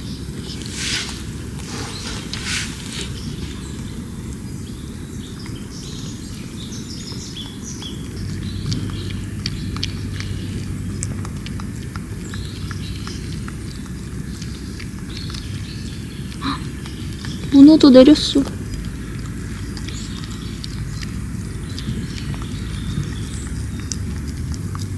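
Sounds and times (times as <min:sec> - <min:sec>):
birds chirping: 0:00.0 - 0:24.9
low background rumble: 0:00.0 - 0:24.9.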